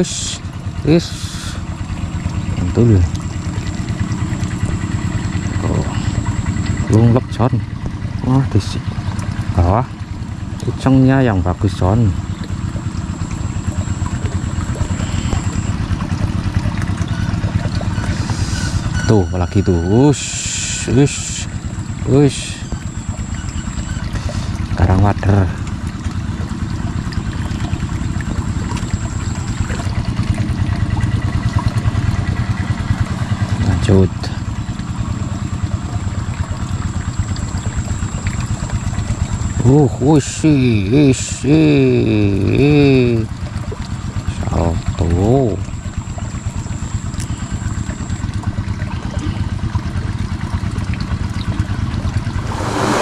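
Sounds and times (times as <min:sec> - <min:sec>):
small engine throbbing: 0:00.0 - 0:53.0
water trickling: 0:00.0 - 0:53.0.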